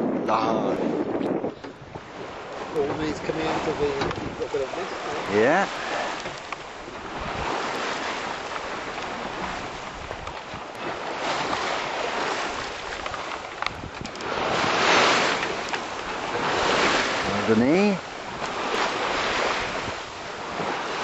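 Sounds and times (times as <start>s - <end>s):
water rushing along a hull: 0.0s - 21.0s
wind buffeting microphone: 0.0s - 21.0s.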